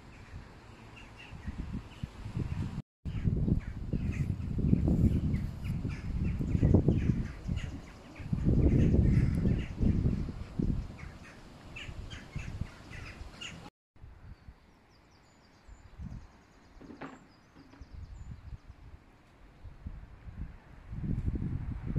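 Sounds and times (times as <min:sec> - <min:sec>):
birds chirping: 0:00.0 - 0:13.7, 0:14.3 - 0:19.0.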